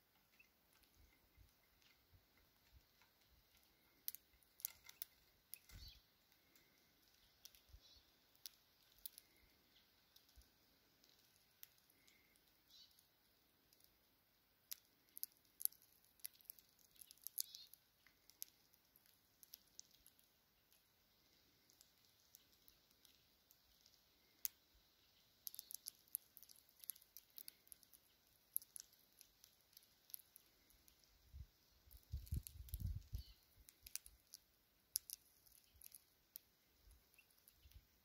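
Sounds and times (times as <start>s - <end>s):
birds cracking seeds: 0.0s - 38.0s.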